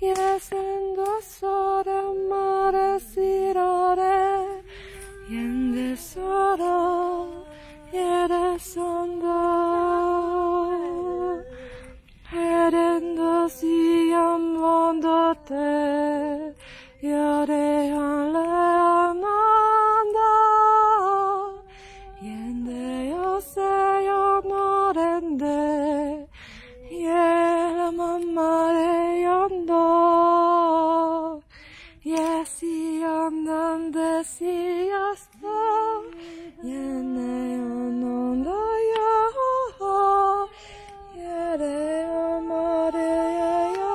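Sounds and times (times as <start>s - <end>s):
woman singing unaccompanied: 0.0s - 43.9s.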